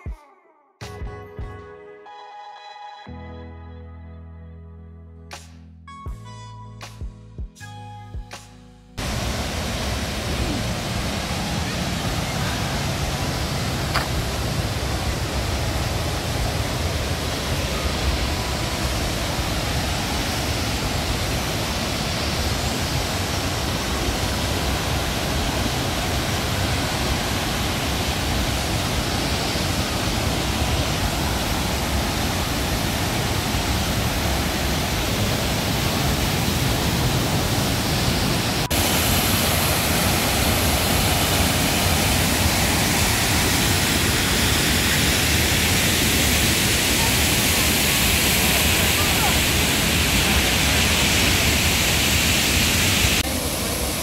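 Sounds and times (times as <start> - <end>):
waterfall rushing: 9.0 - 54.0.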